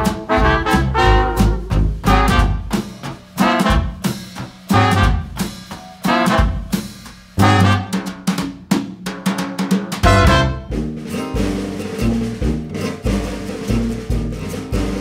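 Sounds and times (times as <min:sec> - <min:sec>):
brass instruments: 0:00.0 - 0:08.7, 0:09.3 - 0:15.0
drum kit snare and bass drum: 0:00.0 - 0:15.0
upbeat swing jazz: 0:00.0 - 0:15.0.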